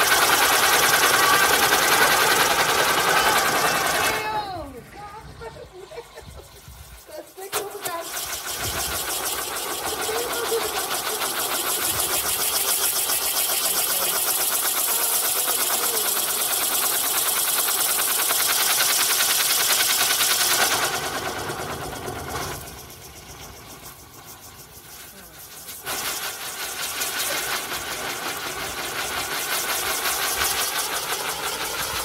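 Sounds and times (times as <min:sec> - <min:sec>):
spinning firework hissing: 0:00.0 - 0:32.0.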